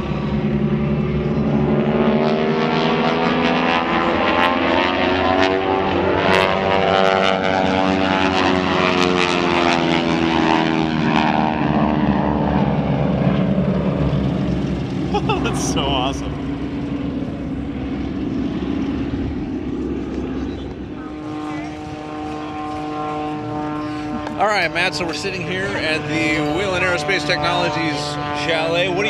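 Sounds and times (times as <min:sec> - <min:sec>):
propeller airplane flying past: 0:00.0 - 0:29.0.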